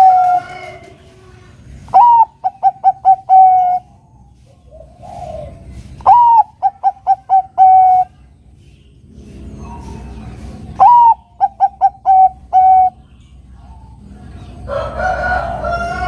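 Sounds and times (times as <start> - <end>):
dove cooing song: 0.0 - 1.1, 1.7 - 8.2, 9.4 - 16.0.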